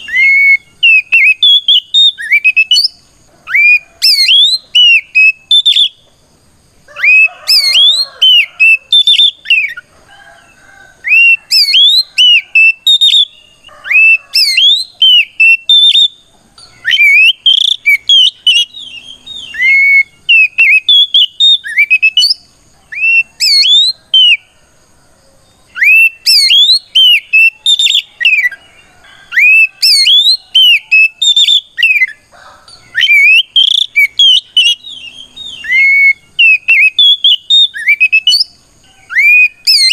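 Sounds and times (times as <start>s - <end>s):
bird singing whistled notes: 0.0s - 6.1s, 6.9s - 9.9s, 11.0s - 24.5s, 25.5s - 39.9s.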